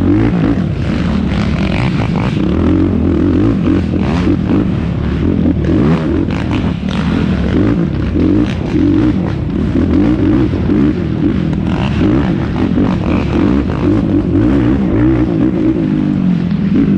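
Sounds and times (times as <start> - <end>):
quad engine revving: 0.0 - 16.9.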